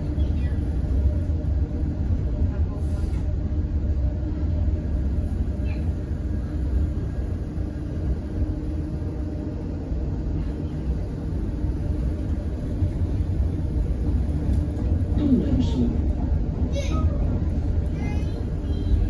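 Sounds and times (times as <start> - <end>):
low rumble of moving tram: 0.0 - 19.0.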